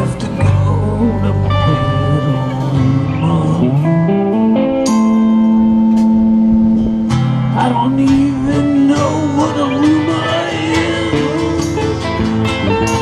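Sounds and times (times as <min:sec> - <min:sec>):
acoustic and electric guitars strumming: 0:00.0 - 0:13.0
wavering lead melody: 0:00.0 - 0:13.0.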